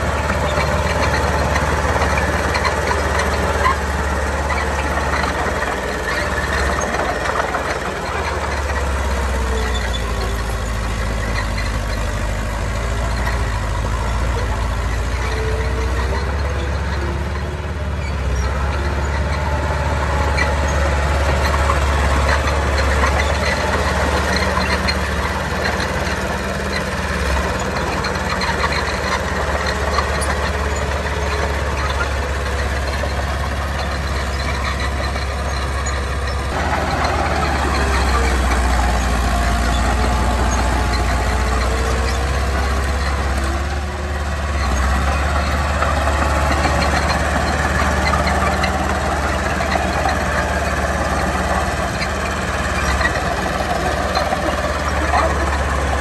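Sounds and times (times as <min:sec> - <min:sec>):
heavy machinery diesel engines rumbling: 0:00.0 - 0:56.0.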